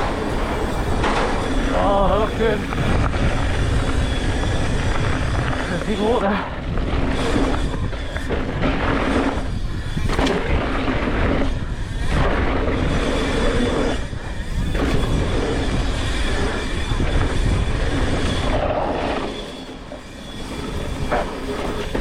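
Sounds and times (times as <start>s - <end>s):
bike rattling over rough ground: 0.0s - 22.0s
bike tyre roar: 0.0s - 22.0s
wind on microphone: 0.0s - 22.0s.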